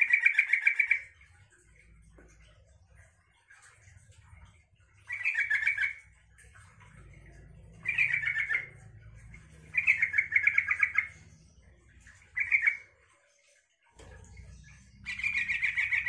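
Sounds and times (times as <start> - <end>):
bird singing: 0.0 - 16.0.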